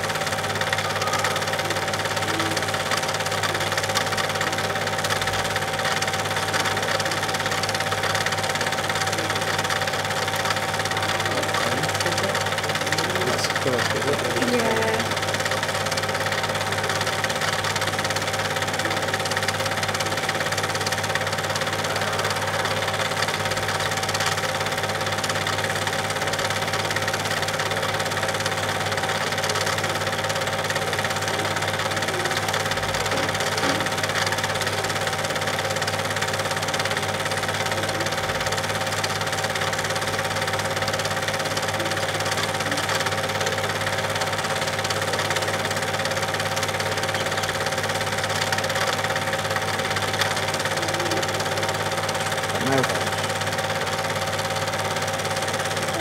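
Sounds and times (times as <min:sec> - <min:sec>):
film projector running: 0:00.0 - 0:56.0.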